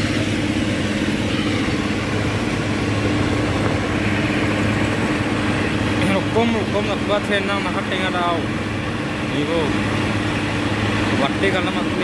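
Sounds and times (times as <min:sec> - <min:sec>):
motor engine running: 0:00.0 - 0:12.0.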